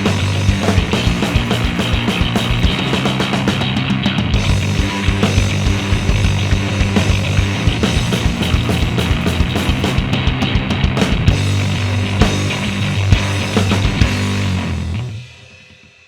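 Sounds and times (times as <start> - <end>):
fuzz-distorted electric bass riff: 0.0 - 15.3
drums: 0.0 - 16.0.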